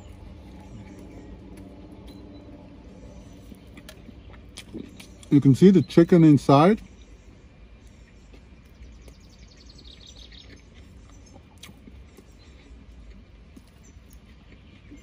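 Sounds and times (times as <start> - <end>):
faint bird chirping: 0.0 - 15.0
low steady rumble: 0.0 - 15.0.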